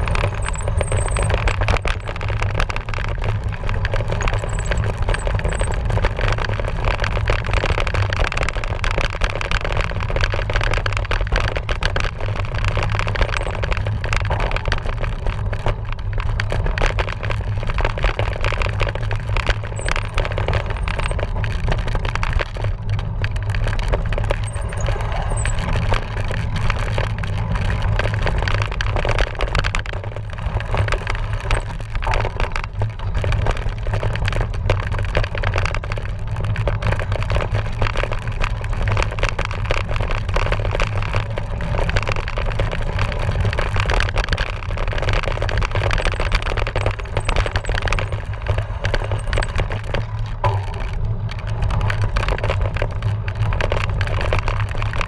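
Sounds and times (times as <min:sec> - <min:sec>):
bike rattling over rough trail: 0:00.0 - 0:55.0
wind rumble on microphone: 0:00.0 - 0:55.0.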